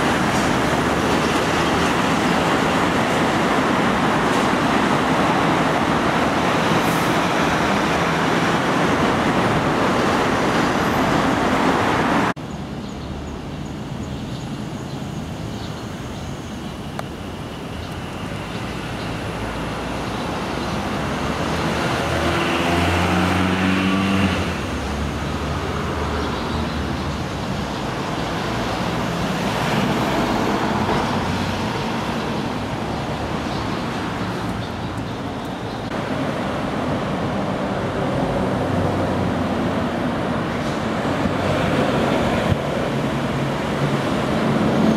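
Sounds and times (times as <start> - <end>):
dense road traffic roar: 0.0 - 44.9
vehicle engine nearby: 0.0 - 44.9.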